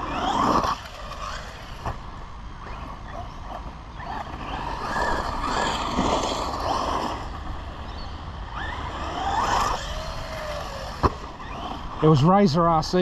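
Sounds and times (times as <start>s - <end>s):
electric motor whining: 0.0s - 2.0s, 2.6s - 12.3s
steady rushing noise: 0.0s - 13.0s.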